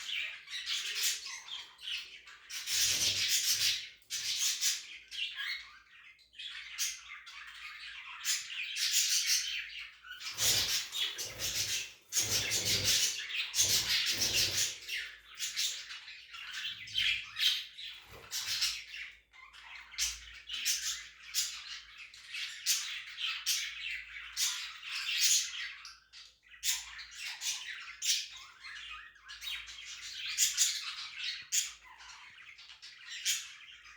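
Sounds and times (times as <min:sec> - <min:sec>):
budgerigars chattering and squawking: 0:00.0 - 0:33.9.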